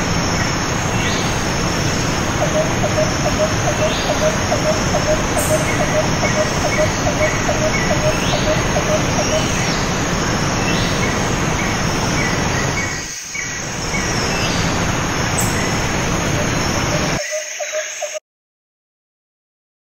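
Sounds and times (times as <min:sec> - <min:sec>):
birds chirping: 0:00.3 - 0:18.2.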